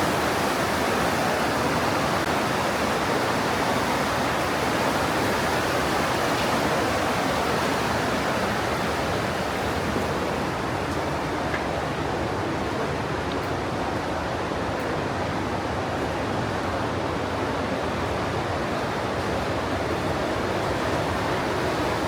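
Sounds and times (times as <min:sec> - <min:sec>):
stream rushing through rock gorge: 0:00.0 - 0:22.0.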